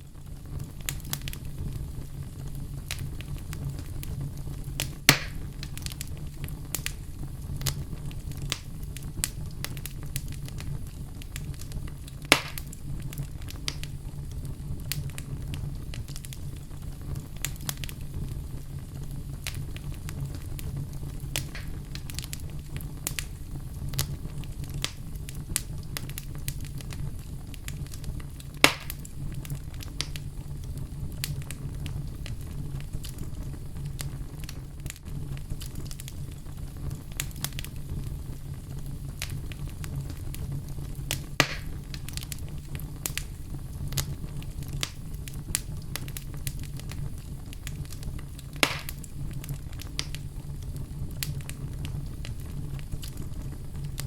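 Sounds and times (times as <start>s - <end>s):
wood fire crackling: 0.0s - 54.0s
loud fire pops: 0.1s - 54.0s.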